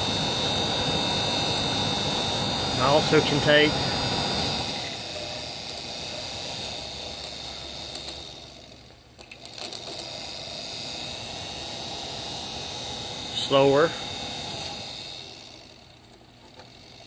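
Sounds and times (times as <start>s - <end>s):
blower motor whining: 0.0s - 17.0s.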